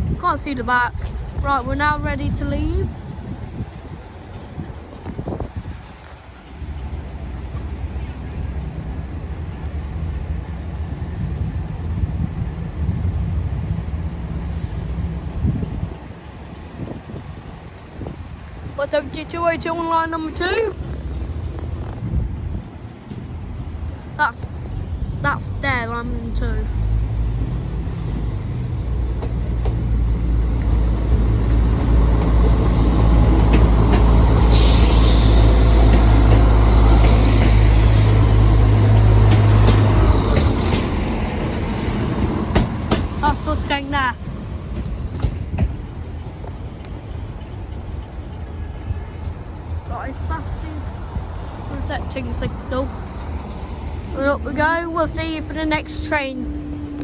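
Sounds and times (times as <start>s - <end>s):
diesel train engine rumbling: 0.0s - 57.0s
wheels rattling on rails: 0.0s - 57.0s
wind buffeting microphone: 0.0s - 57.0s.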